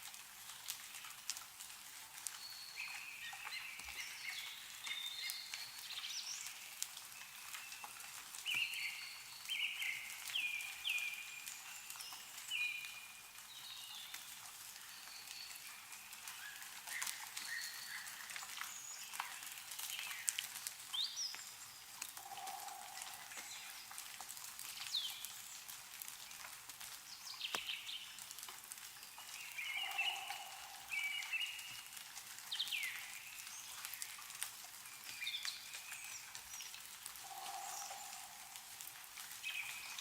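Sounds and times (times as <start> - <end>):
meltwater dripping: 0.0 - 40.0
small birds chirping: 2.0 - 40.0.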